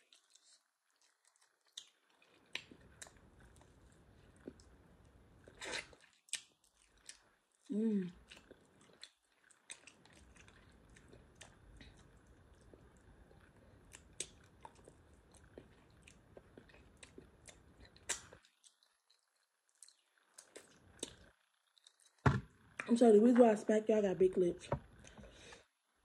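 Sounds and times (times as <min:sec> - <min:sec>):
person chewing and lip smacking: 0:00.1 - 0:04.7, 0:05.4 - 0:22.2.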